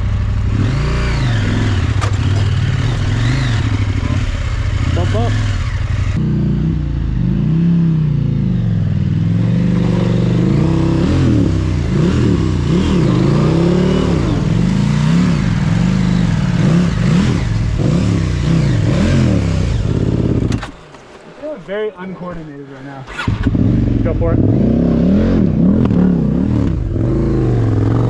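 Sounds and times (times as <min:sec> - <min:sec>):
motorcycle engine revving: 0:00.0 - 0:20.8, 0:23.0 - 0:28.0.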